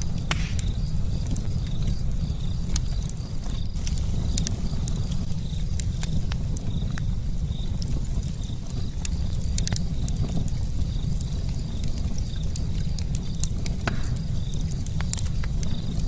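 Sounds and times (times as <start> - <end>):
fire crackling and rumbling: 0.0 - 16.0.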